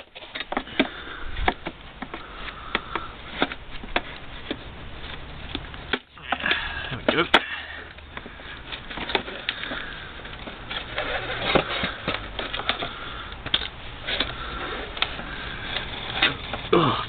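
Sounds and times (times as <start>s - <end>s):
plastic housing clicking and creaking: 0.0s - 16.7s.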